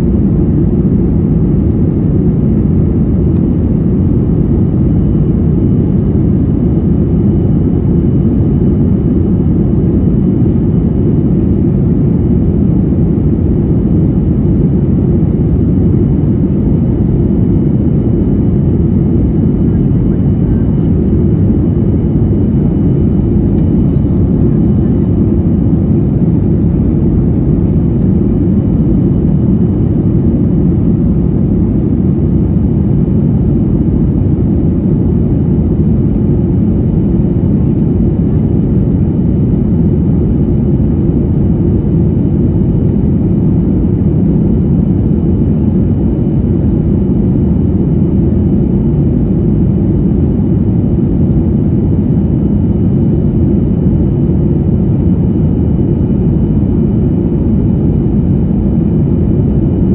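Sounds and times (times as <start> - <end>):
aircraft engines and rushing air: 0.0 - 59.9
faint high whine: 0.0 - 59.9.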